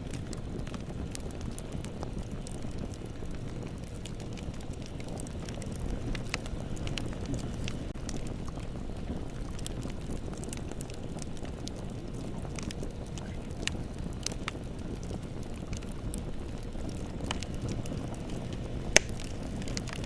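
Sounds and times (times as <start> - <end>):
bonfire burning with crackles: 0.0 - 20.0
fire popping sharply: 0.0 - 20.0.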